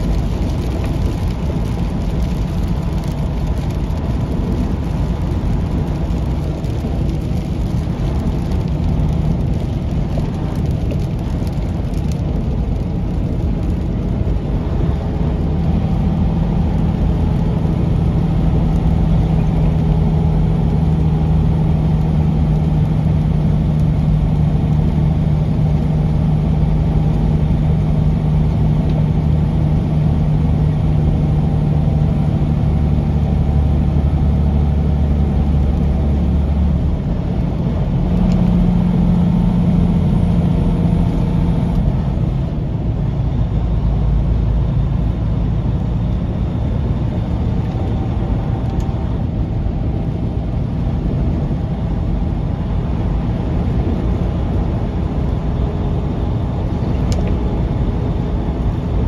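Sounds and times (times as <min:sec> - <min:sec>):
diesel truck engine running: 0:00.0 - 0:59.0
road noise: 0:00.0 - 0:59.0.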